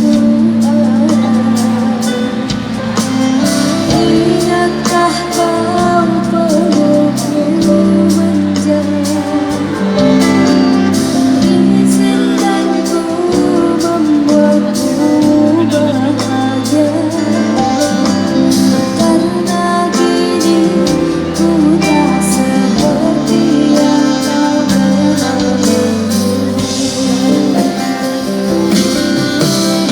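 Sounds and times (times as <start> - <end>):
live band playing: 0.0 - 29.9
woman singing: 0.0 - 29.9.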